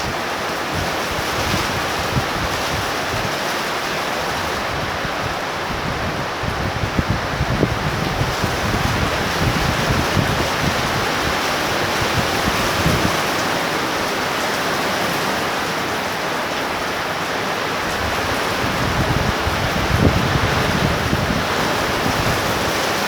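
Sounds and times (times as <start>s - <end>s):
torrential rain hissing: 0.0s - 23.0s
wind buffeting microphone: 0.0s - 23.0s.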